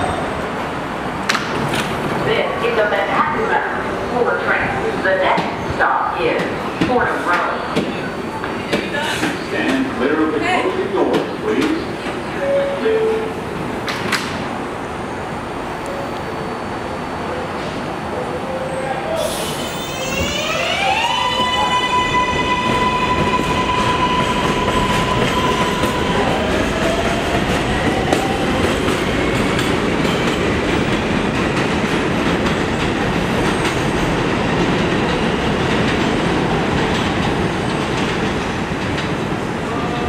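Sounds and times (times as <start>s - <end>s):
train wheels rumbling on track: 0.0s - 12.4s, 19.2s - 40.0s.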